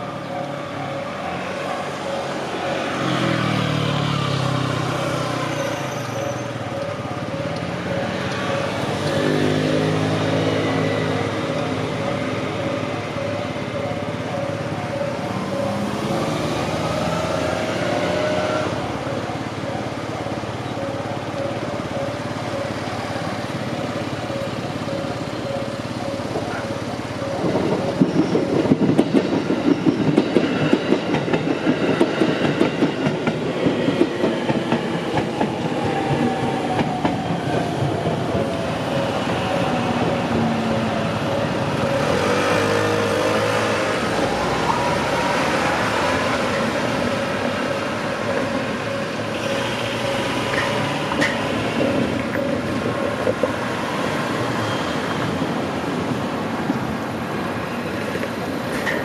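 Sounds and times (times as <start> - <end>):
crossing warning bell ringing: 0.0 - 59.0
train running with held tone: 0.0 - 59.0.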